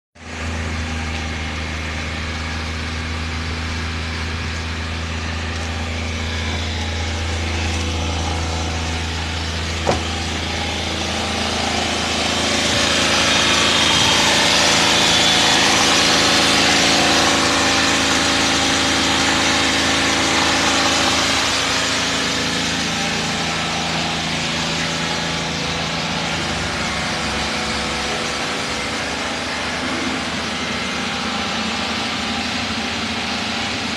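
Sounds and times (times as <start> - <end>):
engine idling: 0.2 - 33.9.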